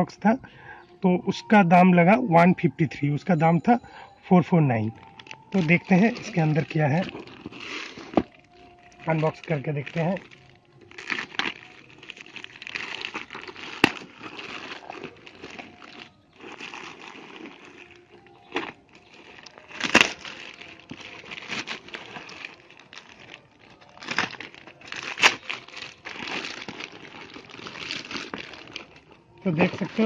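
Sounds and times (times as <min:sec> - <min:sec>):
plastic bag crinkling and rustling: 0:03.6 - 0:30.0.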